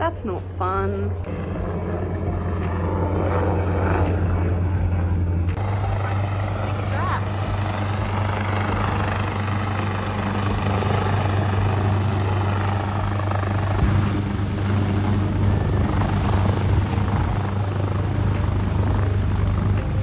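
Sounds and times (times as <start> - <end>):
helicopter rotor and engine: 0.0 - 20.0.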